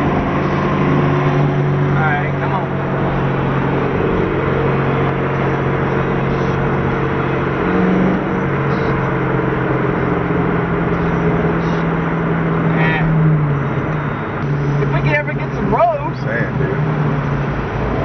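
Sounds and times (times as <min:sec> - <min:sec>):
car engine drone: 0:00.0 - 0:18.0
road noise inside moving car: 0:00.0 - 0:18.0.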